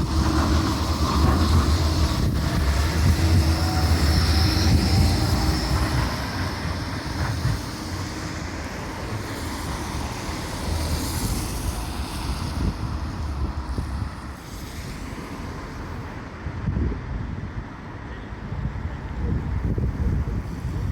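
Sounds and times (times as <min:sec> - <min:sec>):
tram wheels rumbling on rails: 0:00.0 - 0:20.9.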